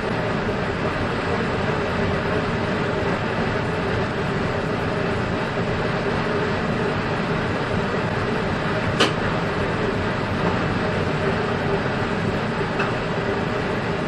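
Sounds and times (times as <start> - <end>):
train wheels rolling on rail: 0.0 - 14.0.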